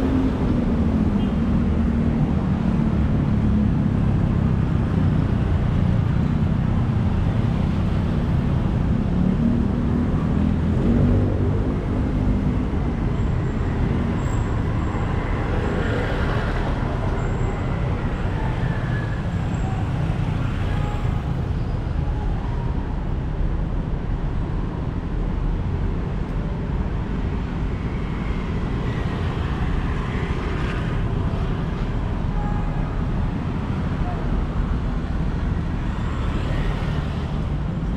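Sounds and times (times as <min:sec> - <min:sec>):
city traffic rumble: 0:00.0 - 0:37.9.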